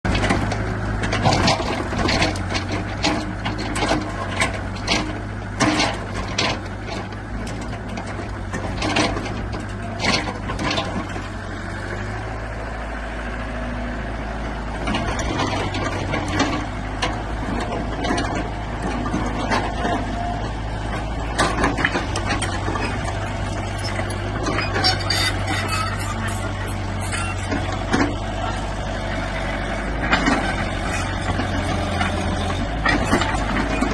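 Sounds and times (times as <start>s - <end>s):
diesel engine running: 0.0s - 33.9s
metallic clanks and knocks: 0.1s - 11.4s, 14.8s - 28.5s, 29.9s - 33.9s.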